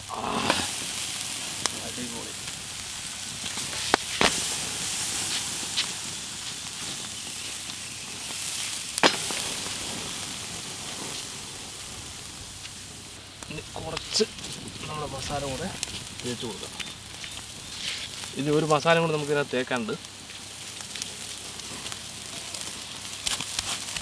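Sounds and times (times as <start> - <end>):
meat sizzling on a grill: 0.0 - 24.0
pops and crackles: 0.2 - 24.0.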